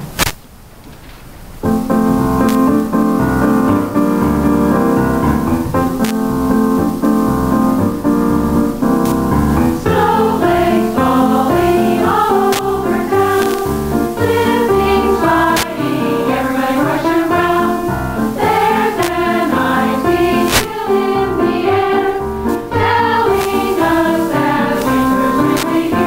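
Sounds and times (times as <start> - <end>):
higher melody line: 1.6 - 26.0
keyboard chords over bass beat: 1.6 - 26.0.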